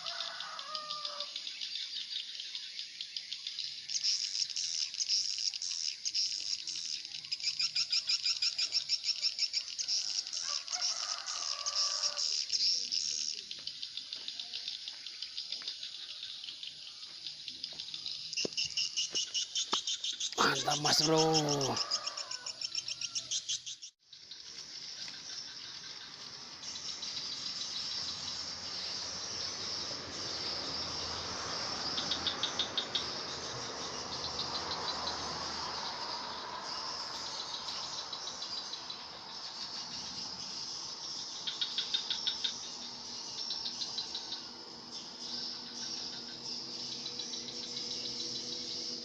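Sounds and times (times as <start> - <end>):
insects chirping: 0.0 - 49.0
pulsing insect trills: 0.0 - 49.0.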